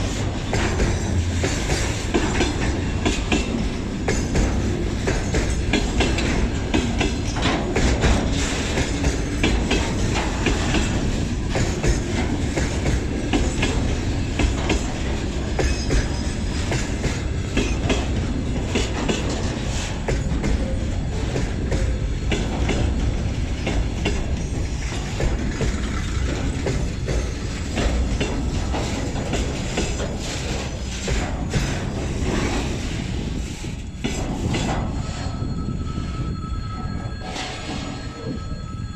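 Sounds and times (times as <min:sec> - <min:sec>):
wheels clattering over rail joints: 0:00.0 - 0:35.6
freight train rumbling past: 0:00.0 - 0:38.9.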